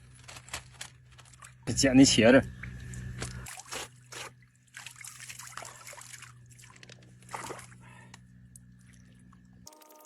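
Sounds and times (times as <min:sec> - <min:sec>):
steady low hum: 0:00.0 - 0:10.0
water sloshing and trickling: 0:00.0 - 0:10.0.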